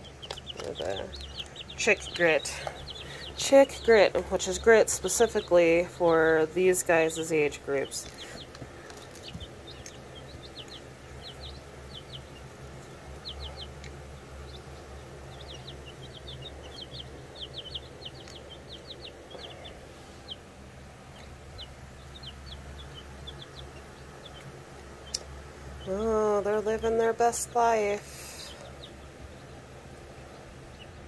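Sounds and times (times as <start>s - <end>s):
chicks peeping: 0.0s - 31.0s
low steady hum: 0.0s - 31.0s.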